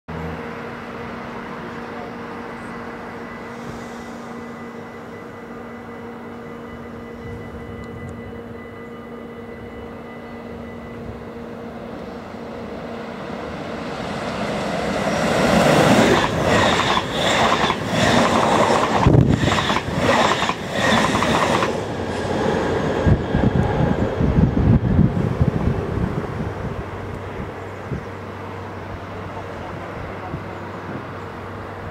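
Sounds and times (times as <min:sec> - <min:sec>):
electric train hum: 0:00.1 - 0:31.9
rushing rail noise: 0:00.1 - 0:31.9.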